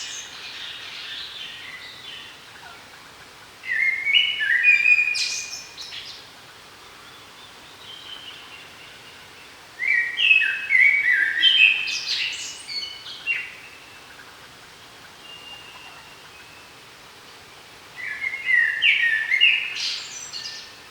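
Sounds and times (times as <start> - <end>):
songbird singing: 0.0 - 20.9
steady outdoor hiss: 0.0 - 20.9.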